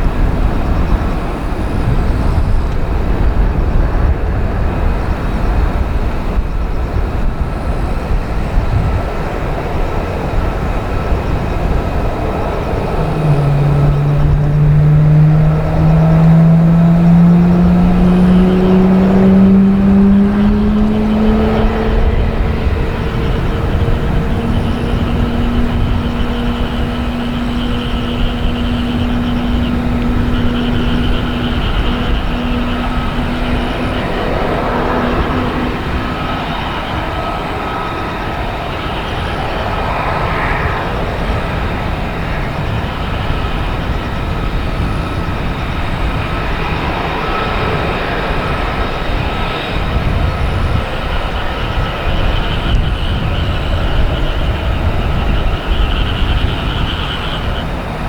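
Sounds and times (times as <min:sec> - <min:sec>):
humming tone: 0:00.0 - 0:58.0
vehicle low rumble: 0:00.0 - 0:58.0.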